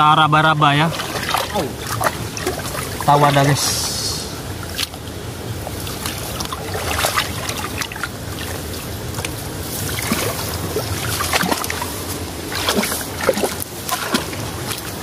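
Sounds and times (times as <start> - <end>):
small splashes and trickling: 0.7 - 15.0
hands sloshing in muddy water: 0.8 - 15.0.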